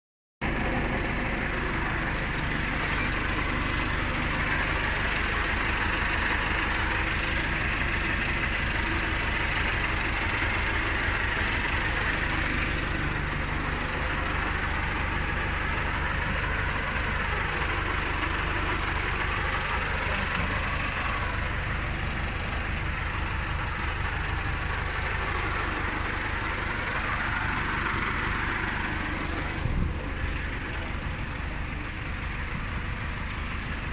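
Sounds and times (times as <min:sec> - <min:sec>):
baler mechanical drone: 0:00.4 - 0:33.9
tractor engine running: 0:00.4 - 0:33.9.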